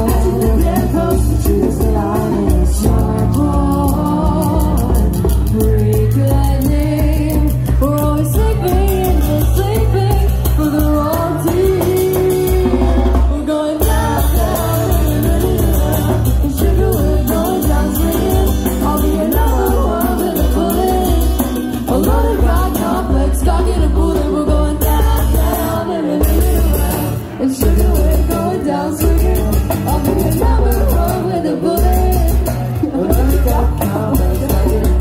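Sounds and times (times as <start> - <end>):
person singing: 0.0 - 35.0.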